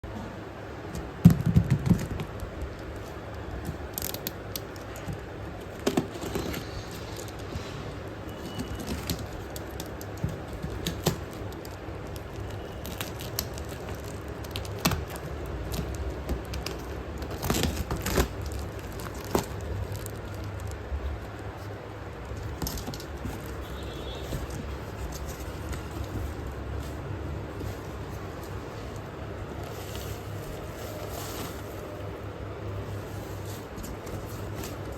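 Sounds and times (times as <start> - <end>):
packaging clicks and crinkles: 0.8 - 34.9.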